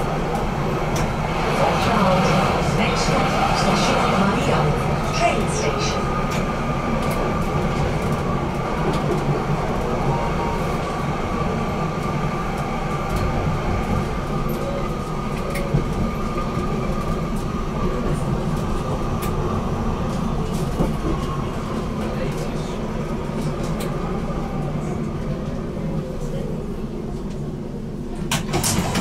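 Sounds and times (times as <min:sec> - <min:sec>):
tram rumbling along track: 0:00.0 - 0:29.0.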